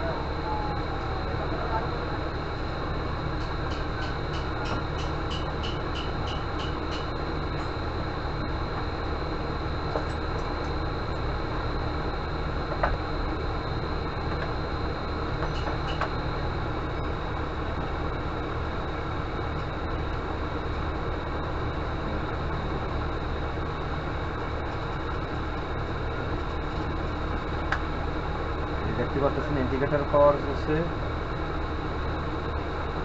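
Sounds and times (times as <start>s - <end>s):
faint high whine: 0.0s - 33.0s
low rumbling background noise: 0.0s - 33.0s.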